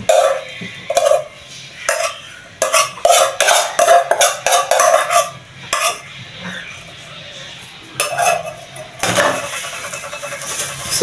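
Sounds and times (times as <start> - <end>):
metal spoon scraping a saucepan: 0.0 - 6.8, 8.0 - 11.0.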